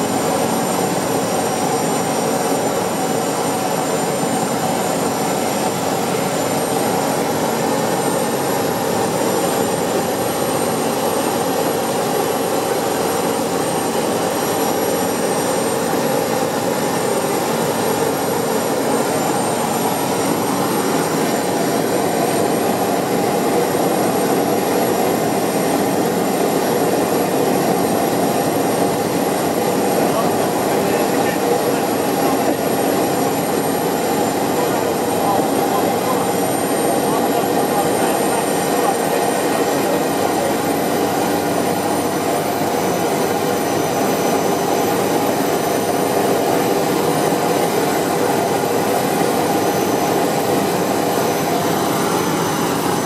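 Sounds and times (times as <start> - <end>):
turboprop engine running: 0.0 - 53.0.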